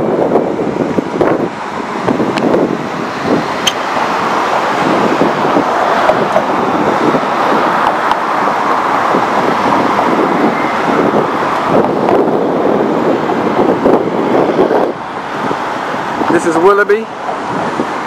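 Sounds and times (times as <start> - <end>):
street traffic: 0.0 - 18.0
wind on microphone: 0.0 - 18.0.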